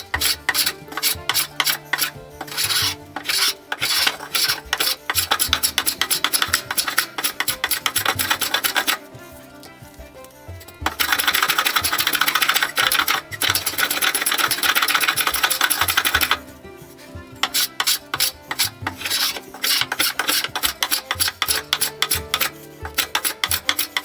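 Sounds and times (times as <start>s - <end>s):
hand tool scraping wood: 0.0s - 24.0s.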